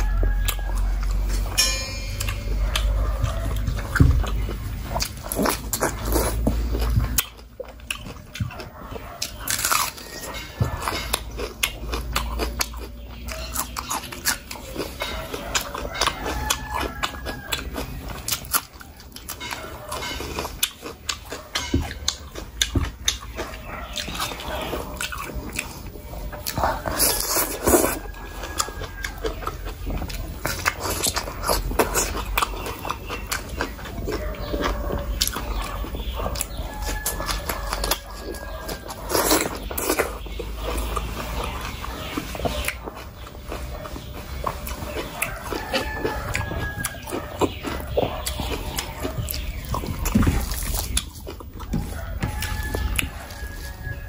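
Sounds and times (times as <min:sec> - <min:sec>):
wet chewing and lip smacking: 0:00.0 - 0:01.6, 0:02.2 - 0:54.0.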